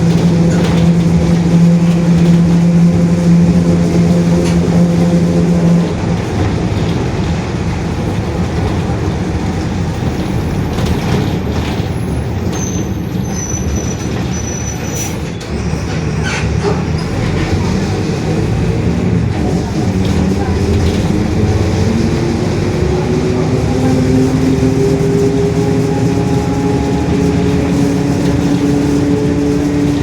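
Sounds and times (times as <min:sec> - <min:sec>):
bus differential droning growl: 0:00.0 - 0:30.0
bus engine rumble: 0:00.0 - 0:30.0.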